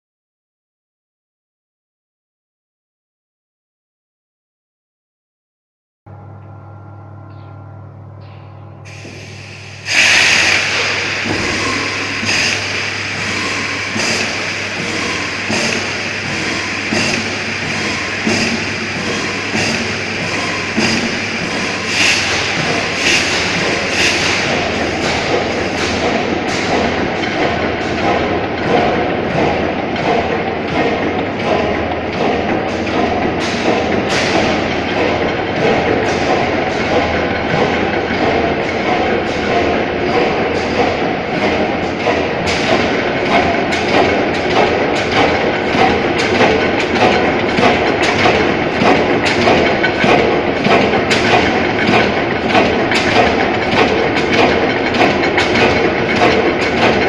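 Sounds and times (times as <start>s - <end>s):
oil engine thumping: 10.5s - 57.0s.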